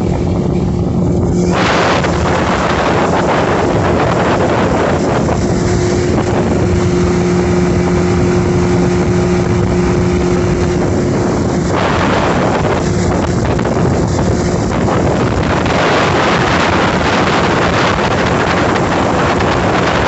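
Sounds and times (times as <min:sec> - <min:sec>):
boat wake rushing: 0:00.0 - 0:20.0
outboard motor droning: 0:00.0 - 0:20.0
wind buffeting microphone: 0:00.0 - 0:20.0.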